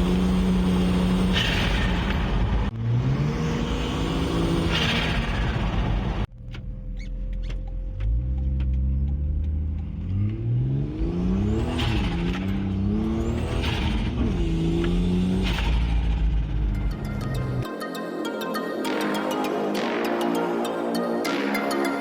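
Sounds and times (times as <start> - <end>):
car engine idling and revving: 0.0 - 17.7.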